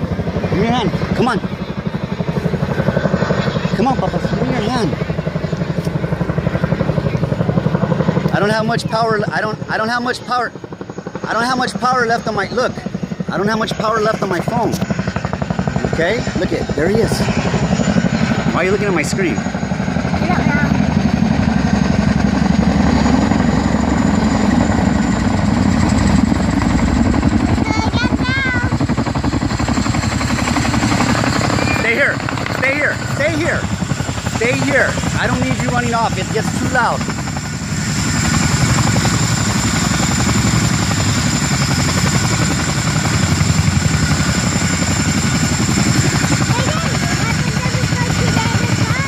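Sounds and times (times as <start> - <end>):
helicopter rotor chop: 0.0 - 49.0
turbine whine: 0.0 - 49.0.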